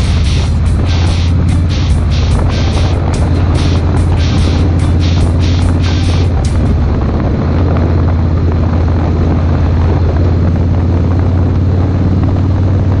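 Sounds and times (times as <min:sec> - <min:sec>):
wind rushing: 0:00.0 - 0:12.2
motorcycle engine running: 0:00.0 - 0:13.0.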